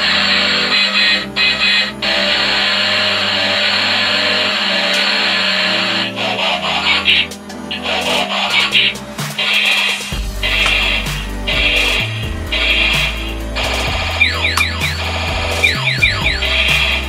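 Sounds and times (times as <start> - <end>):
music: 0.0 - 17.0.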